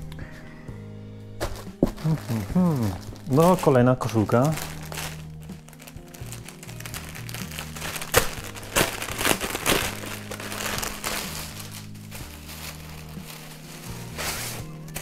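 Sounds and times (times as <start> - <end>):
soft background music: 0.0 - 15.0
plastic bag crinkling: 1.4 - 15.0.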